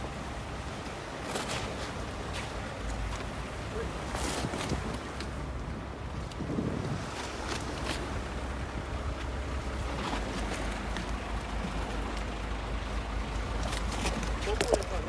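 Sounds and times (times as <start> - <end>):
boat engine low rumble: 0.0 - 15.0
water noise: 0.0 - 15.0
wind: 0.0 - 15.0.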